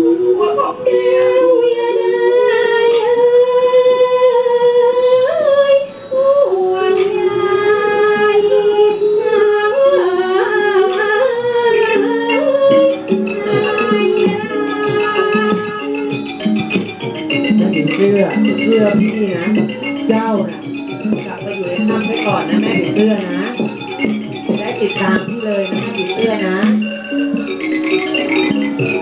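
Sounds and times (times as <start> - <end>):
woman singing wavering notes: 0.0 - 29.0.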